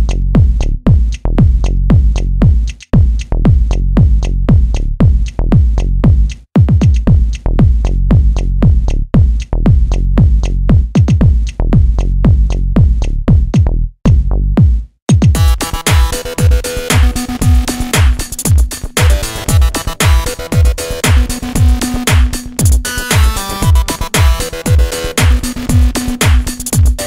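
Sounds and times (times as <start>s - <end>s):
electronic music with fast beat: 0.0s - 27.0s.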